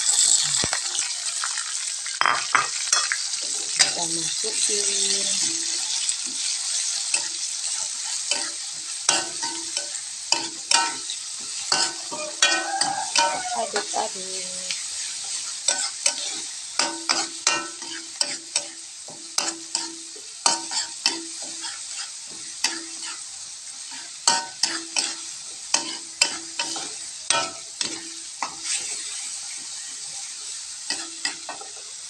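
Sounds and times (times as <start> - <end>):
paste sizzling in hot oil: 0.0 - 32.0
spatula scraping a wok: 2.2 - 32.0.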